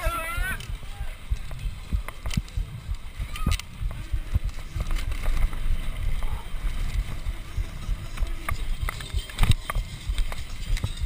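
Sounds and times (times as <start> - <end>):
bike rattling and knocking: 0.0 - 11.0
wind rumbling on microphone: 0.0 - 11.0.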